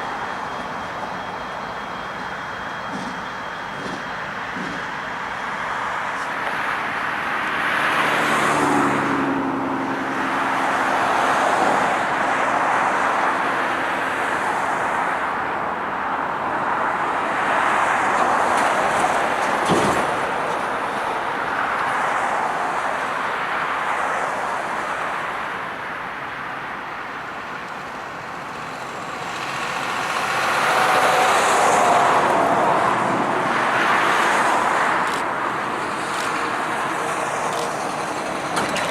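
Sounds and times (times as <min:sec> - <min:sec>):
engine hum: 0:00.0 - 0:38.9
vehicles rushing by: 0:00.0 - 0:38.9.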